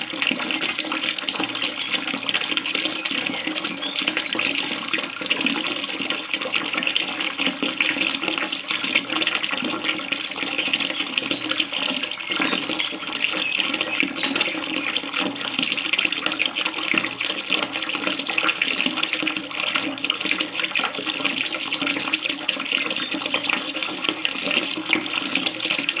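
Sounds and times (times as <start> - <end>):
running water splashing: 0.0 - 26.0.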